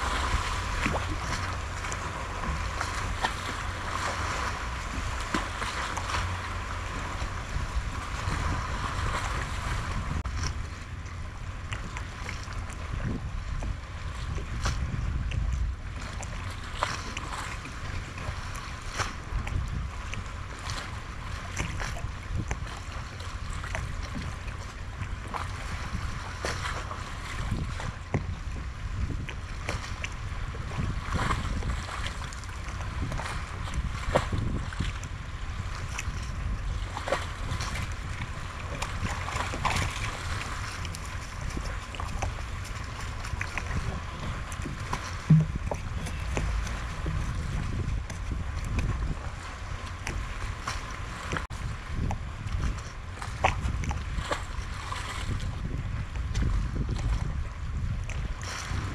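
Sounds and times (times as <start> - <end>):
small waves lapping: 0.0 - 58.9
wind buffeting microphone: 0.0 - 58.9.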